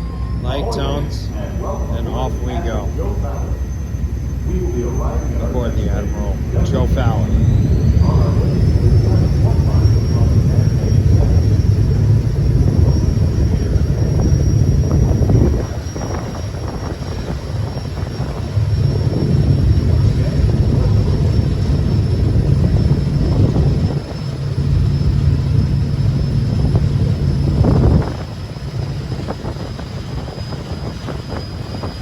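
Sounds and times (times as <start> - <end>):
ferryboat engine droning: 0.0 - 32.0.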